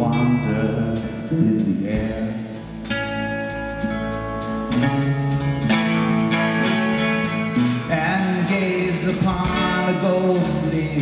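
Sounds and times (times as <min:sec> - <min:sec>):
electric guitar chords ringing: 0:00.0 - 0:11.0.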